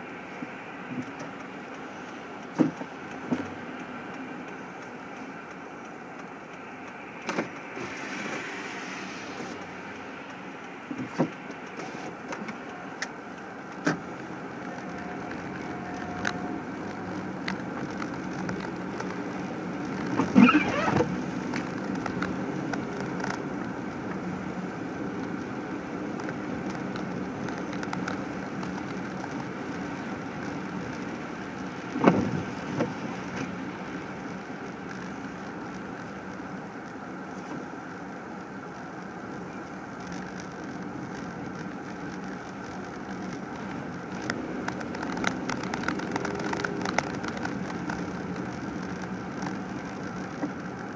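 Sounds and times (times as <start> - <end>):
car driving slowly: 0.0 - 50.9
light ticks: 0.2 - 20.8, 21.4 - 50.9.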